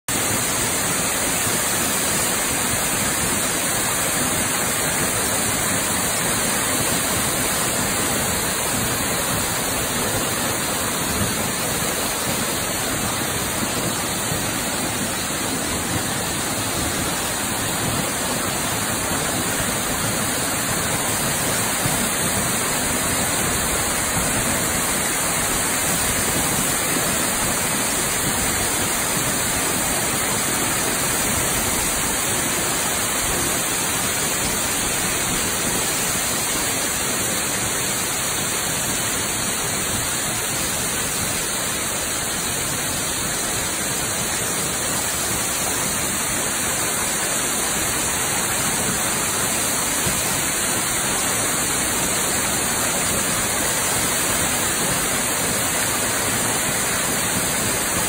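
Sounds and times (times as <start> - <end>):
waterfall rushing onto rocks: 0.1 - 58.0.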